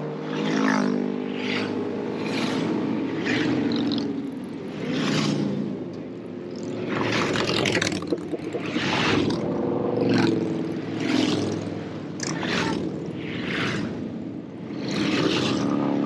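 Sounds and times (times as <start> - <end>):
motorcycles passing: 0.0 - 16.0
road noise: 0.0 - 16.0.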